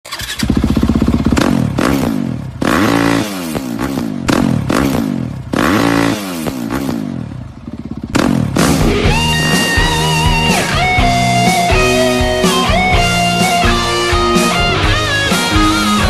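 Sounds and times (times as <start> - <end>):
dirt bike engine revving: 0.1 - 16.0.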